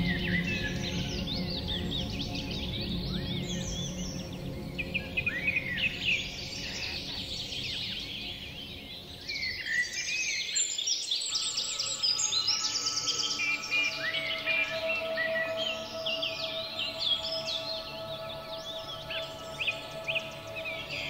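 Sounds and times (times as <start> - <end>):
small birds chirping and trilling: 0.0 - 21.0
soft meditation music: 0.0 - 21.0.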